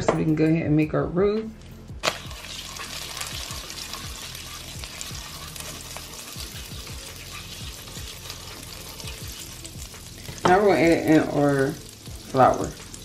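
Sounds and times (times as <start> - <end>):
butter sizzling in a skillet: 2.0 - 13.0.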